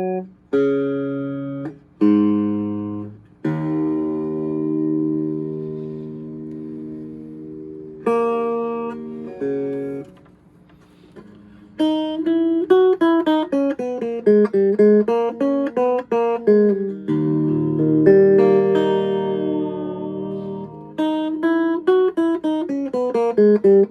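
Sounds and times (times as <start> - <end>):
clean electric guitar: 0.0 - 23.9.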